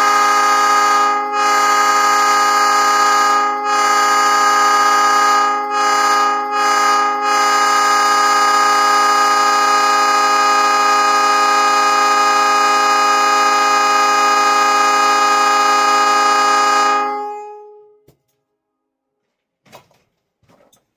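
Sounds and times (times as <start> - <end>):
train horn chord blasts: 0.0 - 18.1.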